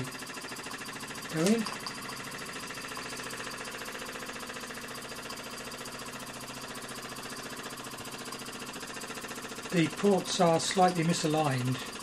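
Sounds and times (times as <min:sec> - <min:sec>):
steam engine running: 0:00.0 - 0:12.0.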